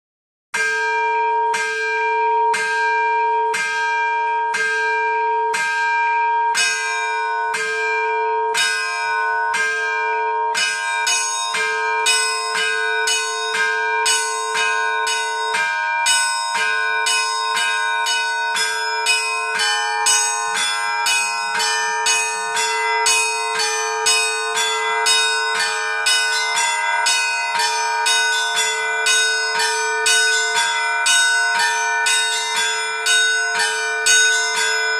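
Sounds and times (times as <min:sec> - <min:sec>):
deep church bell ringing: 0:00.6 - 0:34.9
smaller bells chiming: 0:00.6 - 0:34.9.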